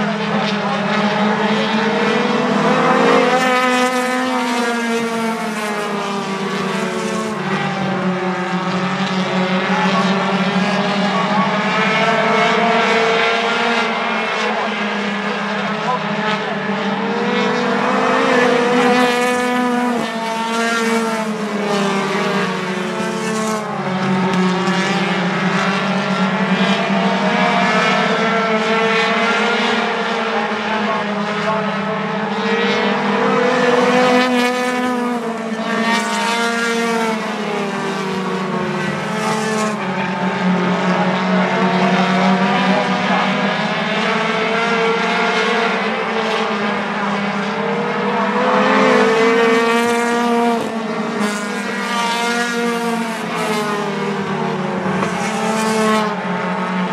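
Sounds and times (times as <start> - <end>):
race car engines: 0.0 - 56.9.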